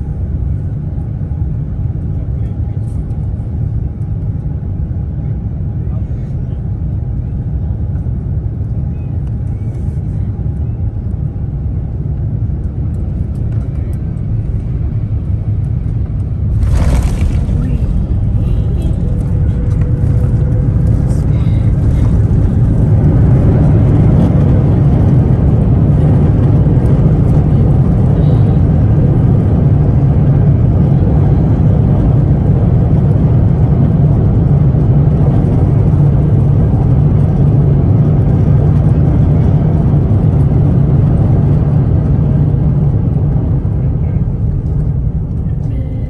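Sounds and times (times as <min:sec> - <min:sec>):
airplane cabin rumble: 0:00.0 - 0:46.0.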